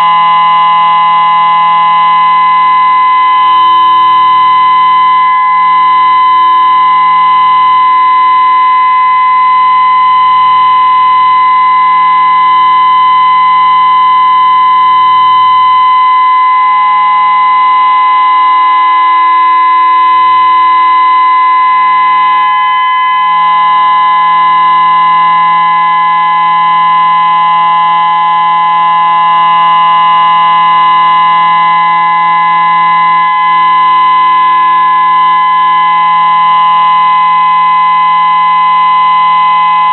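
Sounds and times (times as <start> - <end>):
outdoor siren steady tone: 0.0 - 39.9.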